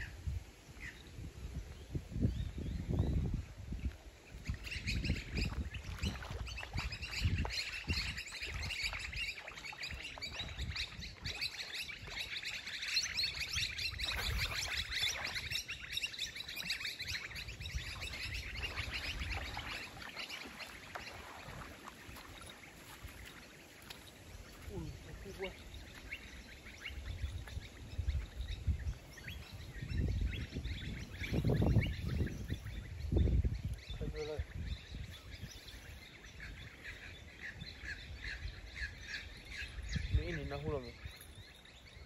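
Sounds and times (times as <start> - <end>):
wind buffeting microphone: 0.0 - 23.5, 24.2 - 42.0
birds chirping: 0.8 - 42.0.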